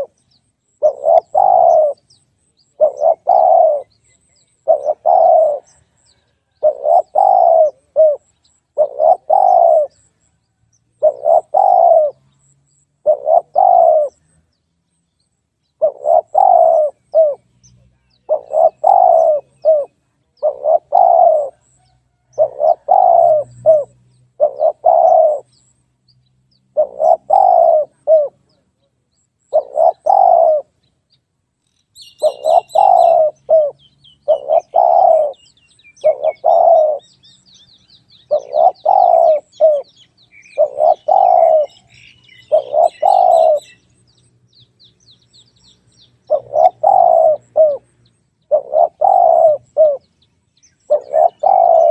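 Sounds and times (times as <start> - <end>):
dove cooing: 0.0 - 0.2, 0.8 - 10.2, 11.0 - 14.4, 15.8 - 17.5, 18.2 - 25.6, 26.7 - 28.7, 29.5 - 30.7, 32.0 - 43.8, 46.2 - 50.1, 50.9 - 51.9
small bird chirping: 0.0 - 51.9.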